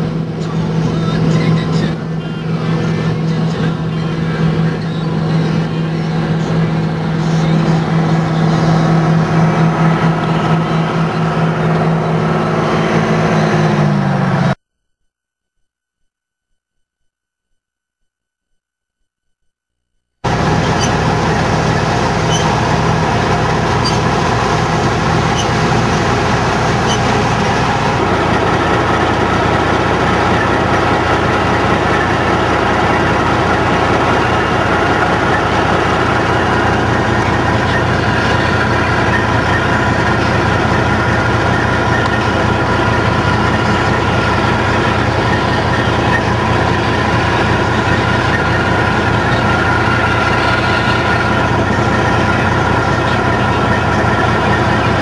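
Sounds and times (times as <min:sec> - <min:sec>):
combine harvester engine droning: 0:00.0 - 0:14.6, 0:20.2 - 0:55.0.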